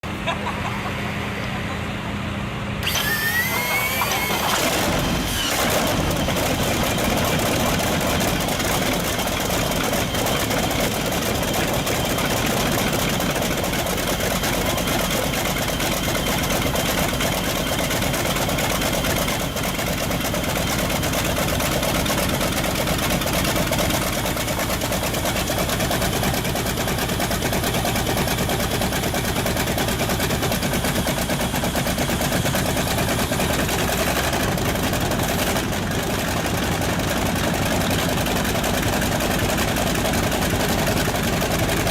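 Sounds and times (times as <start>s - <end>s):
aircraft engine starting and running: 0.0s - 41.9s.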